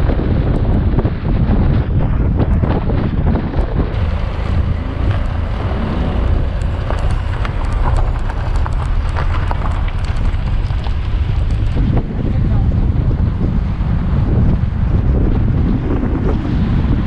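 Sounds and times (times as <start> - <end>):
car driving low rumble: 0.0 - 17.0
wind buffeting microphone: 0.0 - 17.0.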